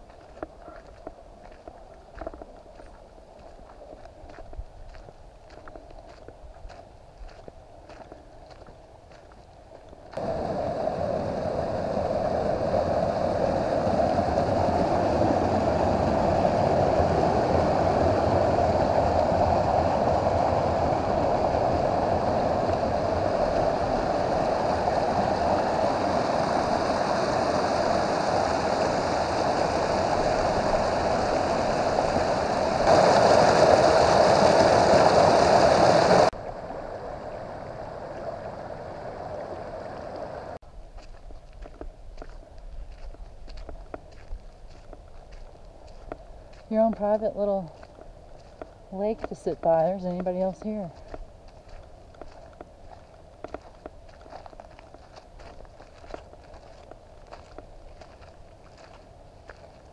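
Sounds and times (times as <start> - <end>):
creek rushing over rocks: 10.1 - 40.6, 41.6 - 59.9.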